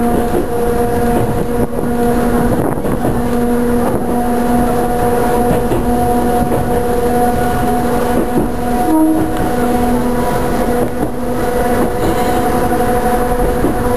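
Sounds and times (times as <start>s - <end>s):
train running gear whine: 0.0s - 13.9s
wheels rumbling on rails: 0.0s - 13.9s.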